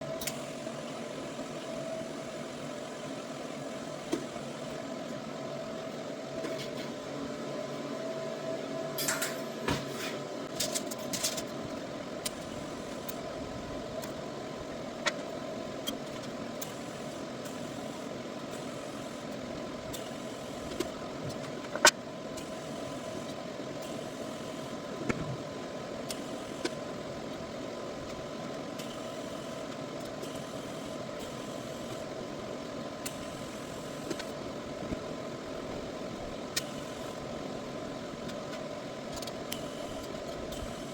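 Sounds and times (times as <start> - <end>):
welding arc humming and hissing: 0.0 - 40.9.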